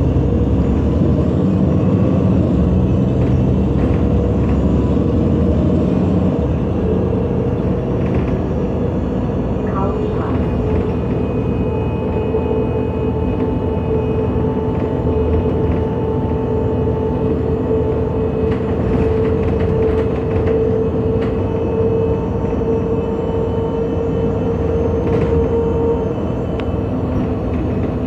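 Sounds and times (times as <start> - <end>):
bus engine rumble: 0.0 - 28.0
driveline whine: 0.0 - 28.0.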